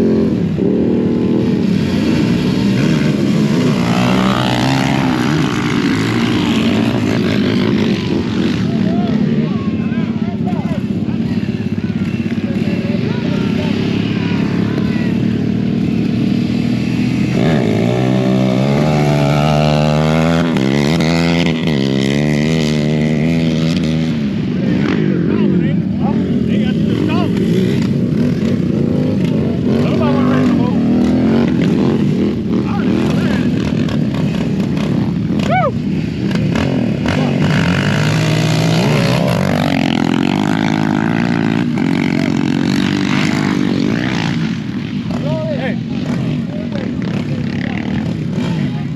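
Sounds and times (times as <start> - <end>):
off-road vehicle engine revving: 0.0 - 48.9.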